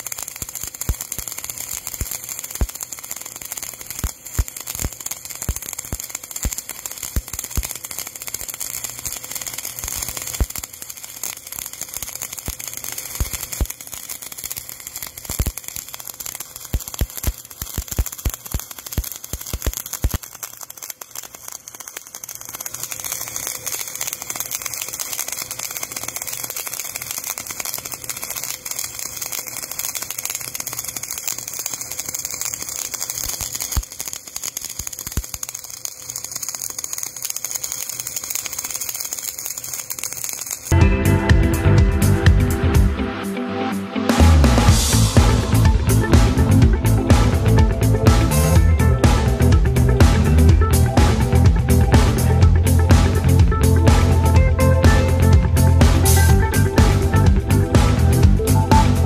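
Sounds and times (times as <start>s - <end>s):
steady welding hiss: 0.0s - 42.8s, 44.7s - 59.0s
welding arc crackling and popping: 0.0s - 43.0s, 44.2s - 59.0s.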